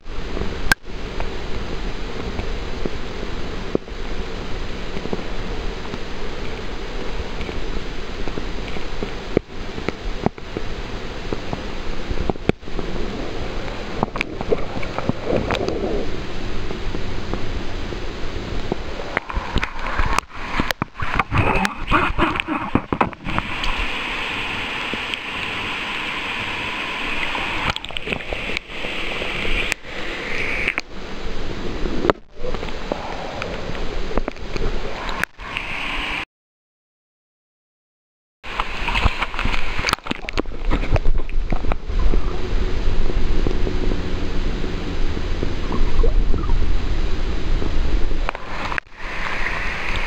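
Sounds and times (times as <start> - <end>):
river water rushing: 0.0 - 36.2, 38.5 - 50.0.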